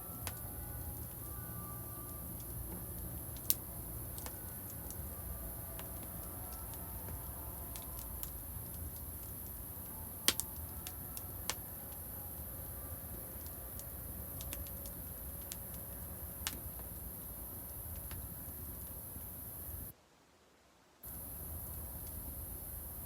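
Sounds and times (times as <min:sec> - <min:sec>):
wood fire crackling: 0:00.0 - 0:19.9, 0:21.0 - 0:23.0.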